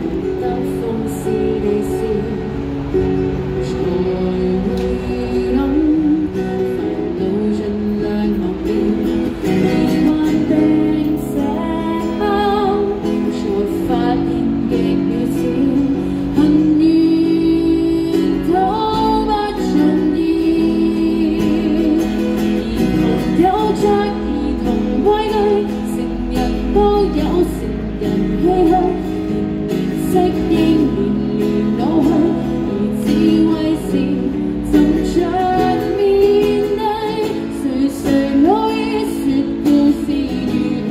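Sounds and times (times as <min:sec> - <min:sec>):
acoustic guitar: 0:00.0 - 0:40.9
woman singing into a microphone: 0:00.0 - 0:40.9.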